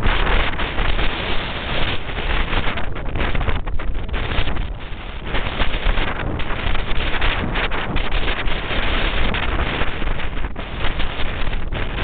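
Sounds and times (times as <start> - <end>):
gusting wind on microphone: 0.0 - 12.0.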